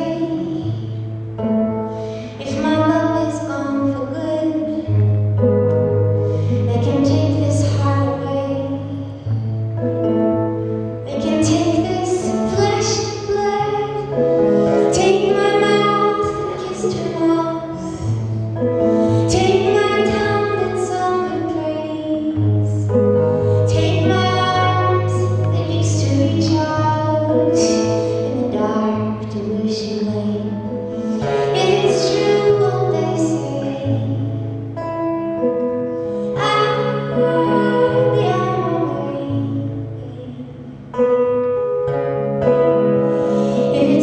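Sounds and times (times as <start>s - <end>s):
woman singing folk song: 0.0s - 1.2s, 2.1s - 5.4s, 6.4s - 9.6s, 11.0s - 41.1s, 43.2s - 44.0s
acoustic guitar: 0.0s - 44.0s.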